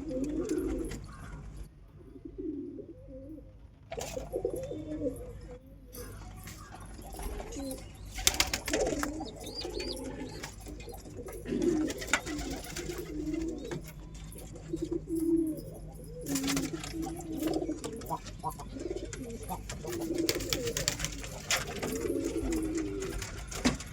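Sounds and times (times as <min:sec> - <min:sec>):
pigeons cooing: 0:00.0 - 0:23.9.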